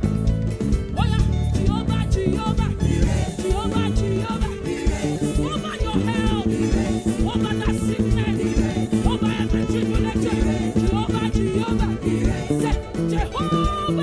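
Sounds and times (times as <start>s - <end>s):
upbeat praise band music: 0.0s - 14.0s.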